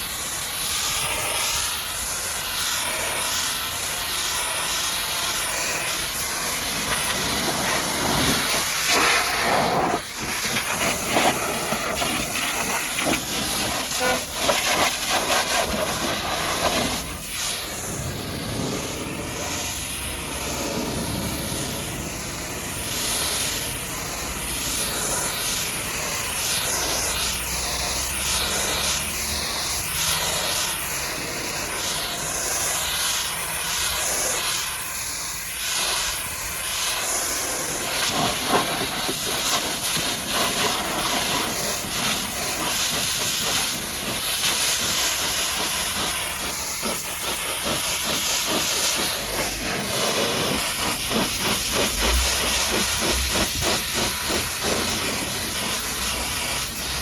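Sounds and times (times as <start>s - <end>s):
pressure washer jet hissing: 0.0s - 57.0s.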